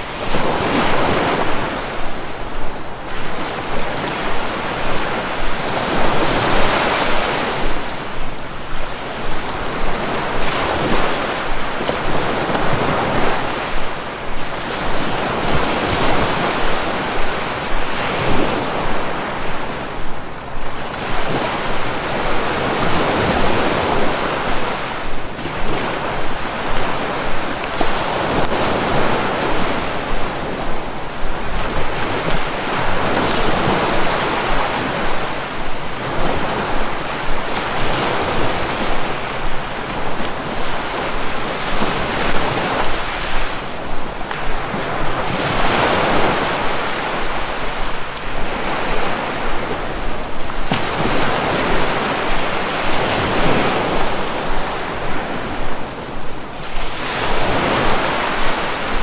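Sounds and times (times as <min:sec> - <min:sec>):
sea waves breaking on shore: 0:00.0 - 0:59.0
wind: 0:00.0 - 0:59.0.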